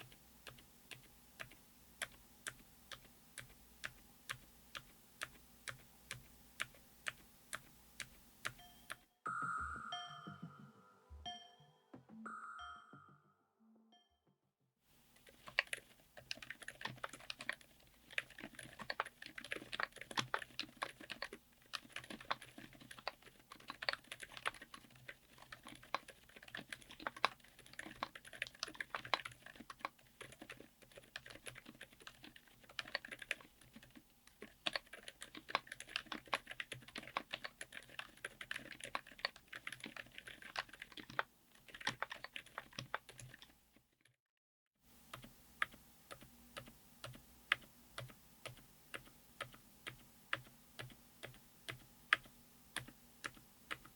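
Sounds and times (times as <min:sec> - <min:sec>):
fast typing on keyboard: 0:00.0 - 0:09.0, 0:15.2 - 0:43.6, 0:45.0 - 0:53.9.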